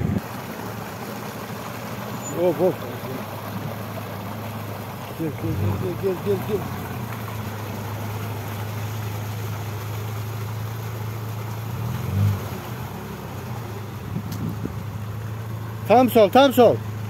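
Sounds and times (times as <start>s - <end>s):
off-road vehicle engine crawling: 0.0s - 17.0s.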